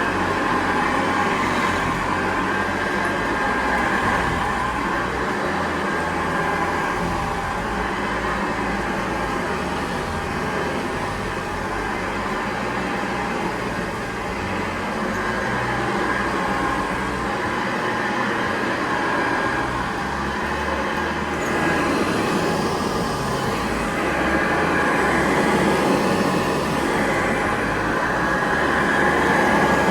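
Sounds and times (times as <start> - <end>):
upright vacuum cleaner running: 0.0 - 29.9.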